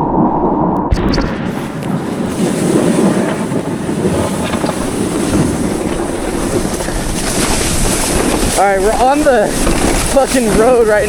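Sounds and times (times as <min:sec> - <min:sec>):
wind buffeting microphone: 0:00.0 - 0:11.0
sled scraping over snow: 0:01.3 - 0:11.0.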